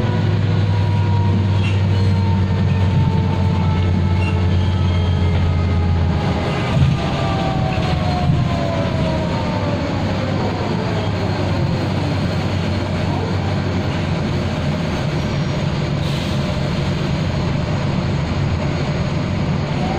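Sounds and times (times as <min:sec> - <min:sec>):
engine and road noise drone: 0:00.0 - 0:19.9.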